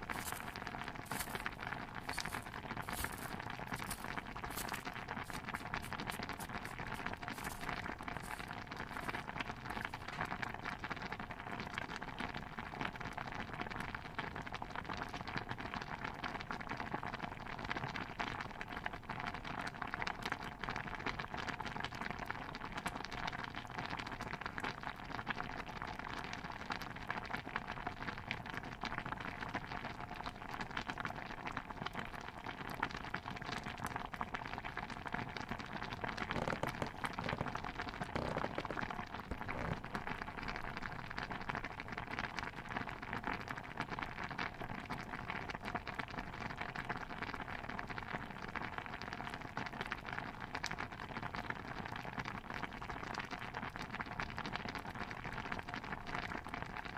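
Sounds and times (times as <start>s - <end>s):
dense patter of pops and drips: 0.0s - 56.9s.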